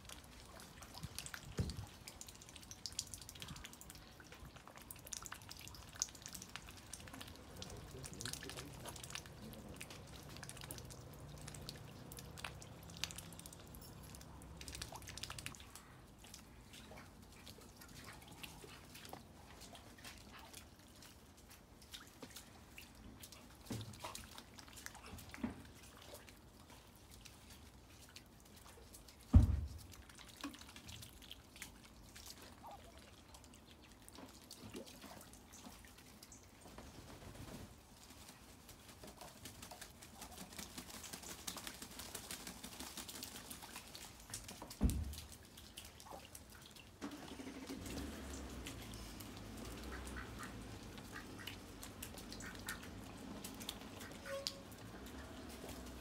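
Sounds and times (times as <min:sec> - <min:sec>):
rainwater dripping on patio: 0:00.0 - 0:56.0.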